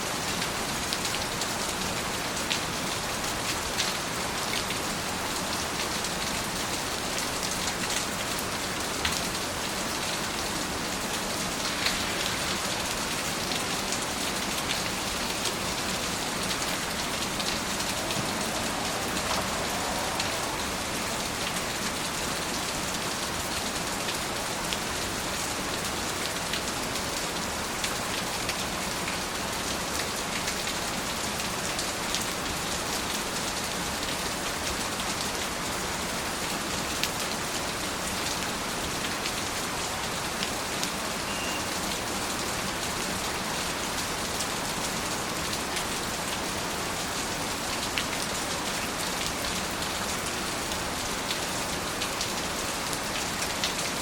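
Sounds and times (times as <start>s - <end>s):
steady rain: 0.0s - 54.0s
raindrops pattering on surfaces: 0.1s - 54.0s.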